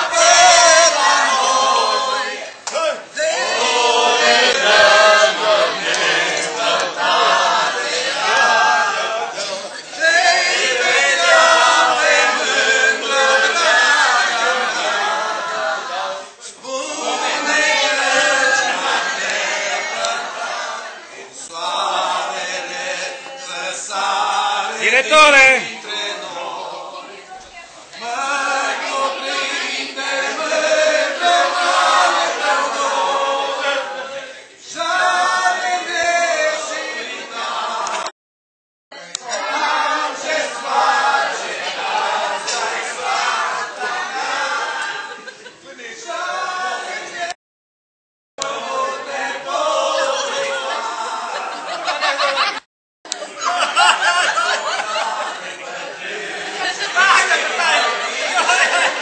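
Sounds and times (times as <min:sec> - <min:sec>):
group singing unaccompanied: 0:00.0 - 0:38.1, 0:38.9 - 0:47.4, 0:48.4 - 0:59.0.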